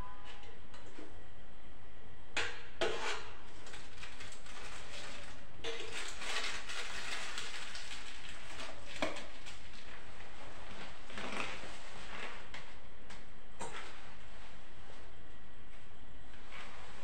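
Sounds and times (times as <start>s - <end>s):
steady low hum: 0.0s - 6.3s, 8.0s - 17.0s.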